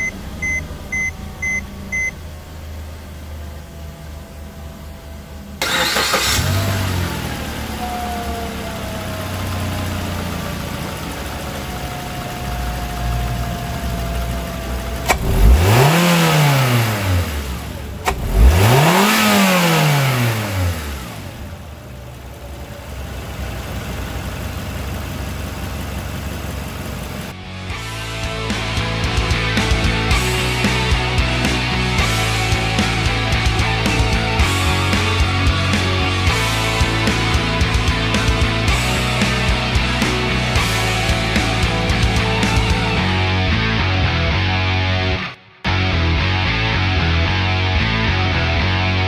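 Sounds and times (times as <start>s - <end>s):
car engine revving: 0.0s - 49.0s
car engine starting and idling: 0.0s - 49.0s.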